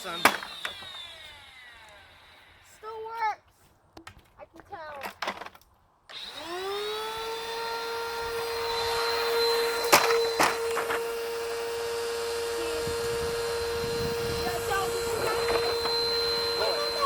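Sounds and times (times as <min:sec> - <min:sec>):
vacuum cleaner motor whine: 0:00.0 - 0:02.9, 0:06.1 - 0:17.0.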